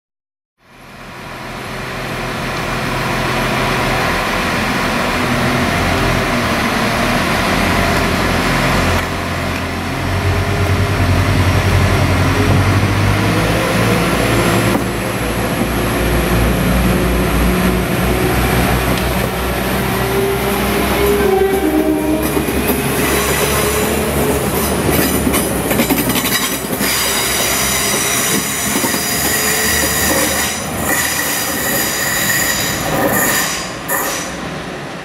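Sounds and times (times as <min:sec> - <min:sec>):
train diesel engine: 0:00.6 - 0:35.0
train wheel and rail noise: 0:00.6 - 0:35.0.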